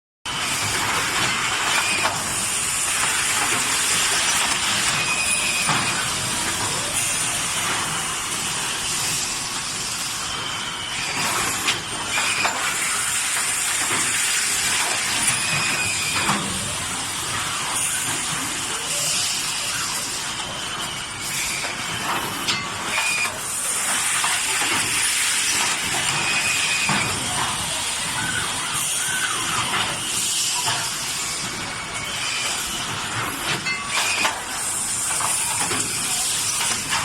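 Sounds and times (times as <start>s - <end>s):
labeling machine hissing: 0.3s - 37.0s.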